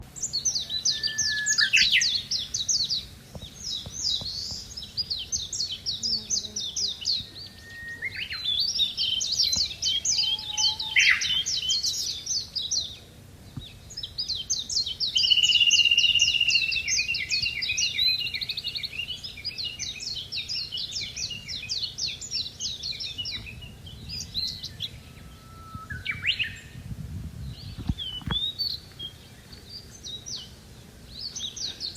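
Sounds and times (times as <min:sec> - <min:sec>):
bird singing: 0:00.0 - 0:31.9.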